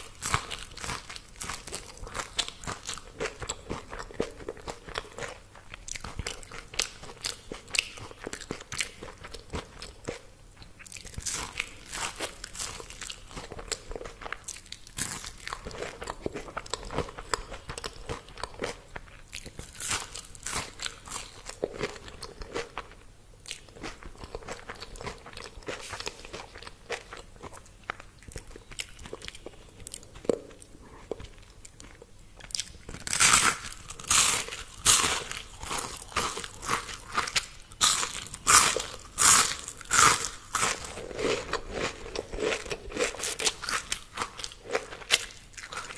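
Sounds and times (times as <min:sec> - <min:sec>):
person chewing crunchy food: 0:00.0 - 0:45.9.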